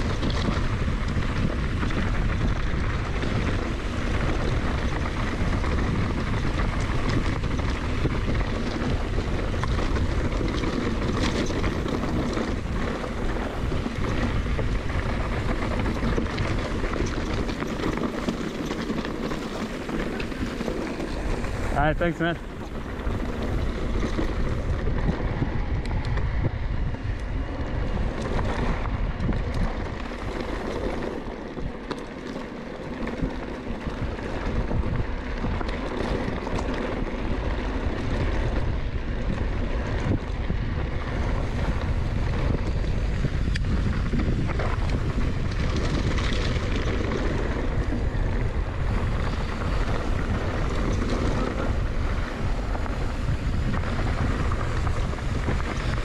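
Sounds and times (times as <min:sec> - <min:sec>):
bike clicks and rattles: 0:00.0 - 0:56.0
tyres rumbling on dirt: 0:00.0 - 0:56.0
wind buffeting microphone: 0:00.0 - 0:56.0.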